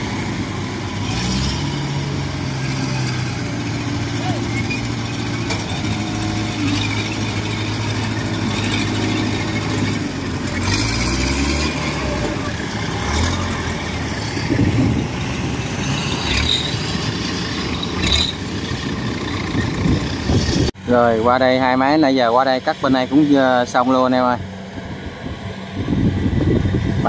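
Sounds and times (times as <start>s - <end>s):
combine harvester diesel engines: 0.0s - 27.0s.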